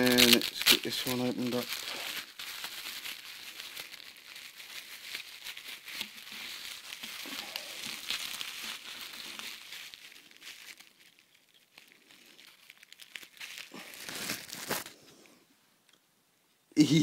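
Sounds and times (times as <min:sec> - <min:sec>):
bubble wrap crinkling: 0:00.0 - 0:15.5.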